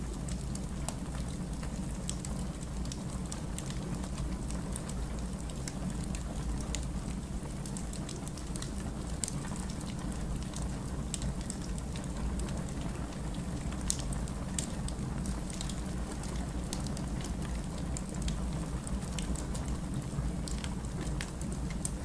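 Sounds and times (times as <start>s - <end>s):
wood fire crackling and popping: 0.1s - 22.0s.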